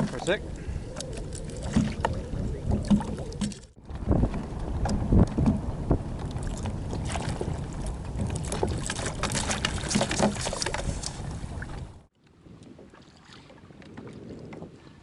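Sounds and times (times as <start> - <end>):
water sounds: 0.0 - 15.0
wind on microphone: 0.1 - 15.0.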